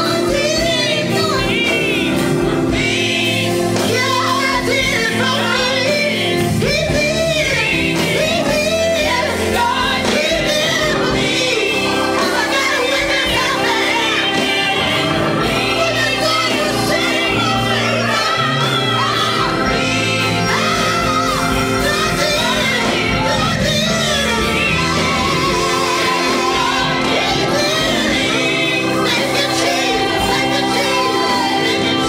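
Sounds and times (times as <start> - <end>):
instrumental accompaniment: 0.0 - 32.0
women singing gospel: 0.0 - 32.0.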